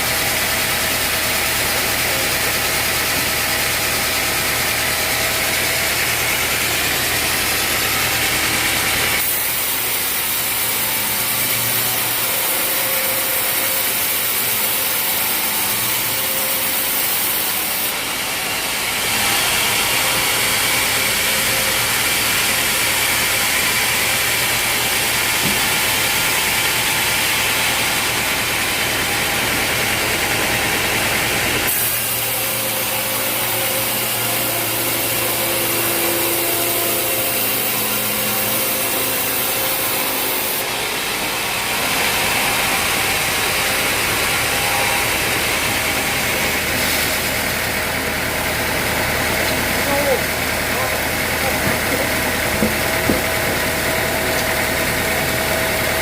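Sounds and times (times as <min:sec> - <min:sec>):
machine engine humming: 0:00.1 - 0:56.0.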